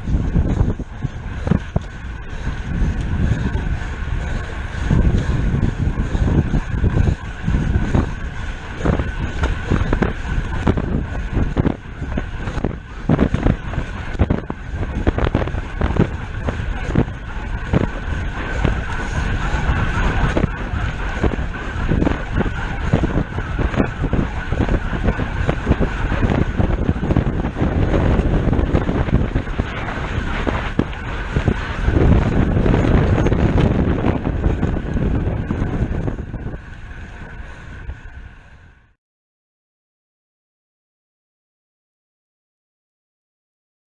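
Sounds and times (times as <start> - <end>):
bike tyre and drivetrain noise: 0.0 - 38.9
wind buffeting microphone: 0.0 - 39.0.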